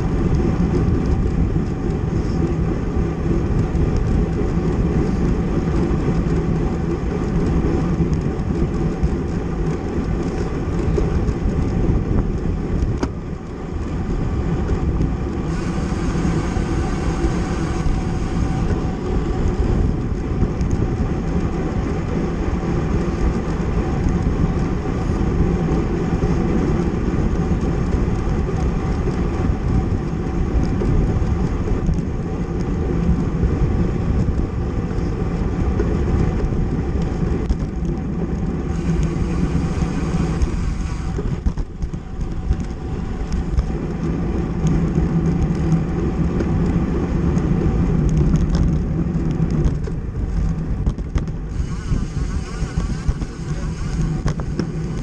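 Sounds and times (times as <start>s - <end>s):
bicycle road noise: 0.0s - 55.0s
wind noise: 0.0s - 55.0s.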